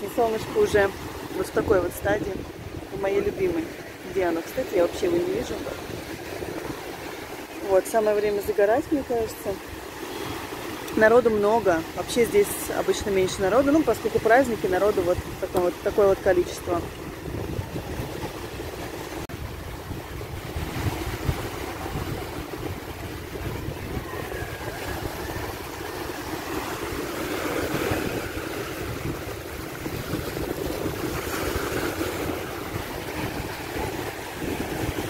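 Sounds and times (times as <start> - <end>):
waves breaking on shore: 0.0 - 35.0
wind on microphone: 0.0 - 35.0.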